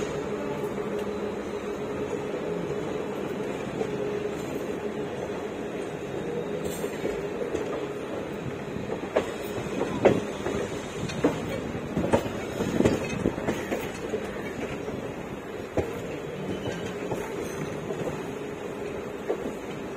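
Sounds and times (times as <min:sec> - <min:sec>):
train rumble and hum: 0:00.0 - 0:19.9.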